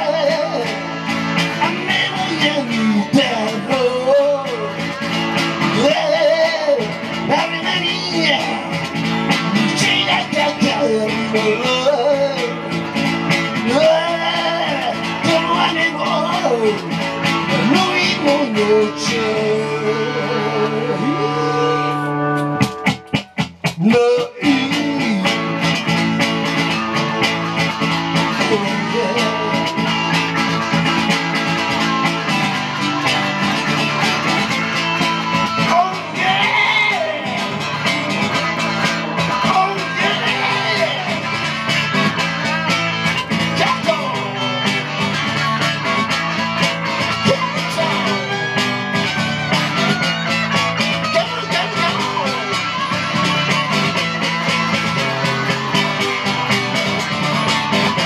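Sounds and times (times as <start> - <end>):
instrumental band music with guitar: 0.0 - 58.0.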